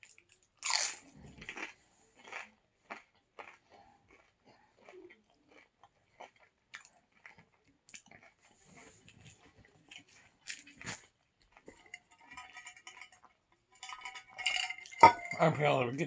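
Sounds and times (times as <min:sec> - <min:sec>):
chewing with soft crunches: 0:00.0 - 0:14.0.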